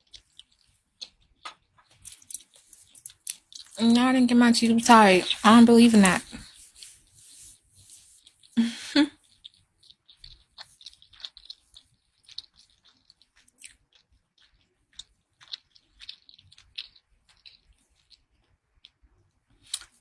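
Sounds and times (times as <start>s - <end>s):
person chewing food: 0.0s - 3.8s, 4.9s - 20.0s.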